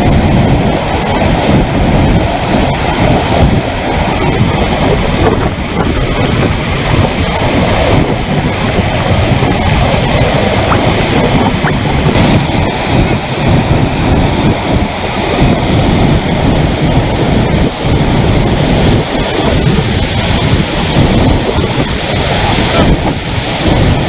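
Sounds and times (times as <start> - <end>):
floodwater rushing over a weir: 0.0 - 24.0.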